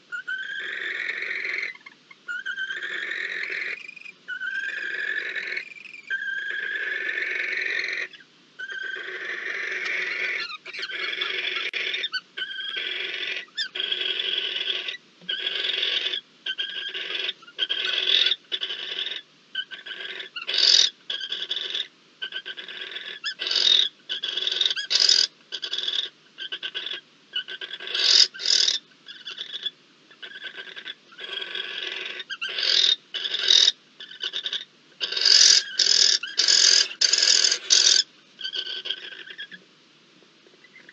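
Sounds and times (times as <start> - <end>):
owls hissing: 0.0 - 39.6.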